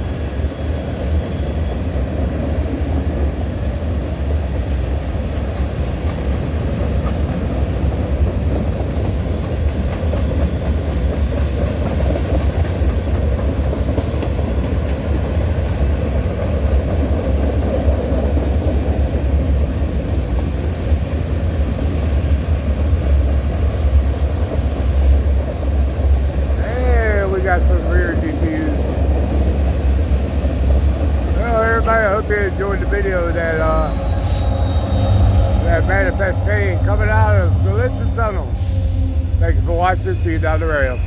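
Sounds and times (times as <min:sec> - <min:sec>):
freight train wheels rumbling on rail: 0:00.0 - 0:41.0.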